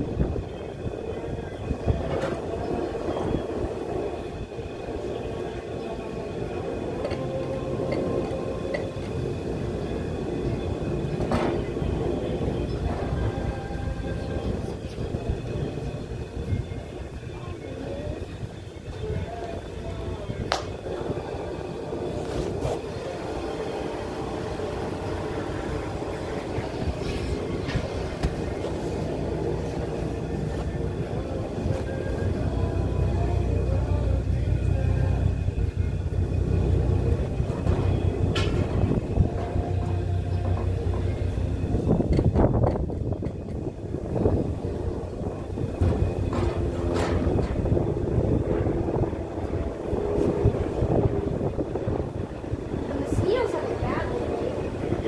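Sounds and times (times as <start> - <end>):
ceiling fan humming: 0.0 - 55.0.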